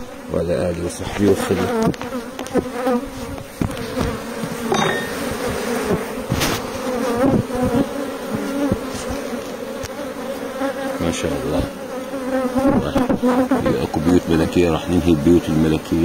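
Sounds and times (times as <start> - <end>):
bees humming: 0.0 - 16.0
single bees buzzing past: 0.0 - 16.0.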